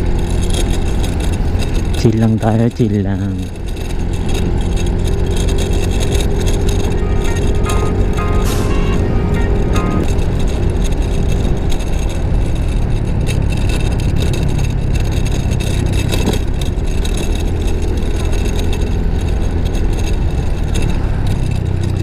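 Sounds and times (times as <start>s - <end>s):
scooter engine running: 0.0s - 22.0s
wind and road noise: 0.0s - 22.0s.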